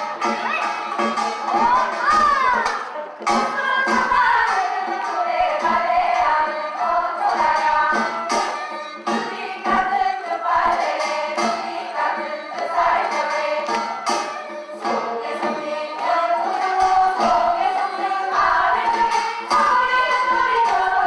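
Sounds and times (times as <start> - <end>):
group singing folk song: 0.0 - 21.0.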